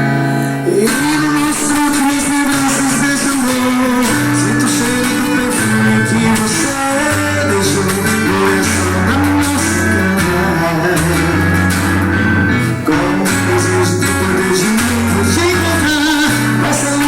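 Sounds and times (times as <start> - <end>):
band playing dance music: 0.6 - 17.0
held bass notes: 0.6 - 17.0.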